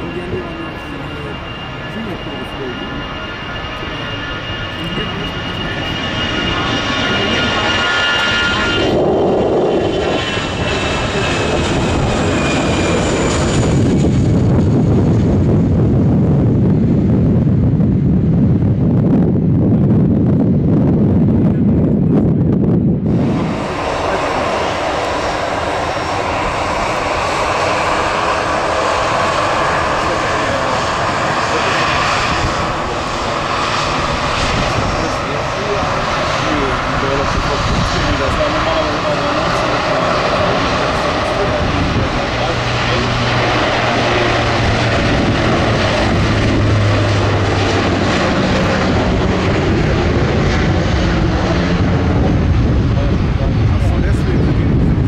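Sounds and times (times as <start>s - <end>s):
jet engine roar: 0.0s - 55.0s
jet engine whine: 0.0s - 55.0s.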